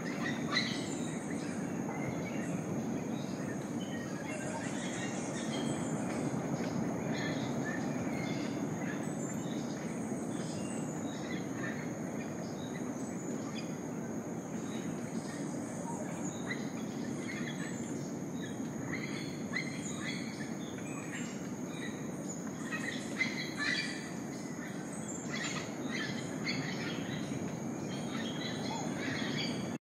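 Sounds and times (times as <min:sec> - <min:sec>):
birds calling and chirping: 0:00.0 - 0:29.8.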